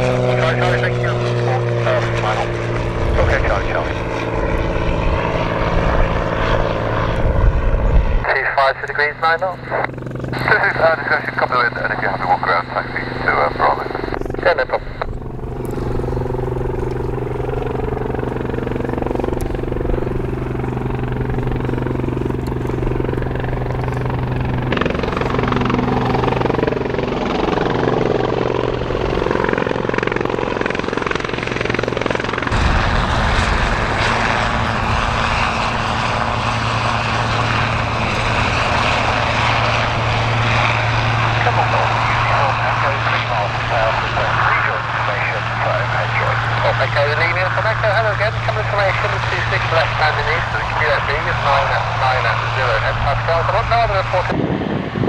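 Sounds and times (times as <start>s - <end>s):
helicopter engines and rotor drone: 0.0s - 55.0s.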